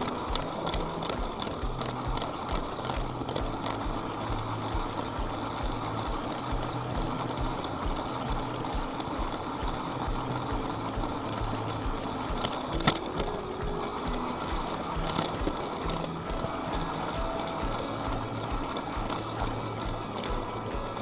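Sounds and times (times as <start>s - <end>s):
toy train motor humming: 0.0s - 21.0s
wheels clicking over track joints: 0.0s - 21.0s.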